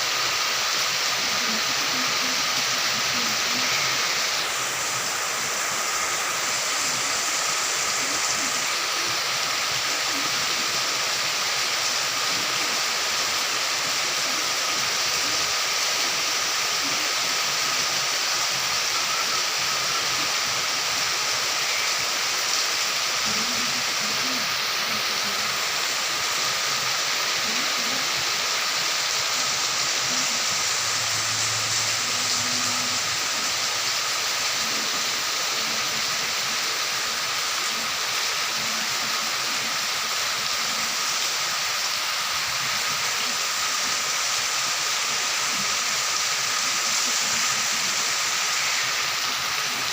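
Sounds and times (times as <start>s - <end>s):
rain on leaves: 0.0s - 49.9s
thin steady tone: 0.0s - 49.9s.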